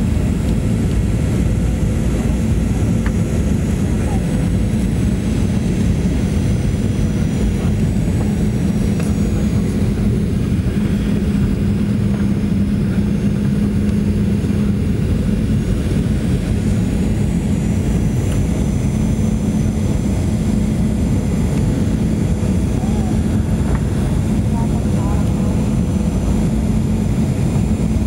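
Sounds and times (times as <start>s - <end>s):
airliner cabin engine rumble: 0.0s - 28.0s
constant low hum: 0.0s - 28.0s.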